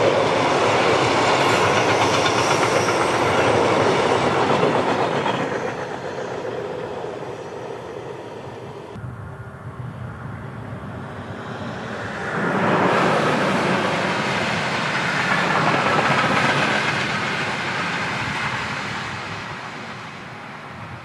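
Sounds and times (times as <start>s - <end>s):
train rumble and rail noise: 0.0s - 21.0s.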